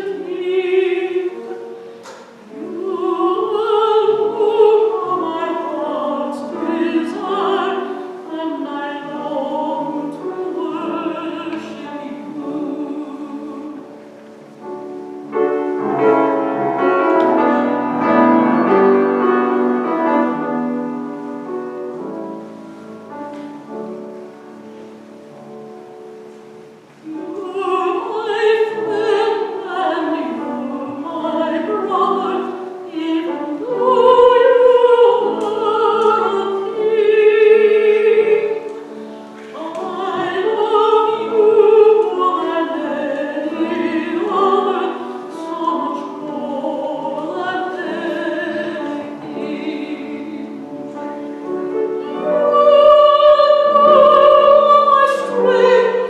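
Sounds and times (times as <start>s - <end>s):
person singing classical style: 0.0s - 56.0s
piano playing: 0.0s - 56.0s.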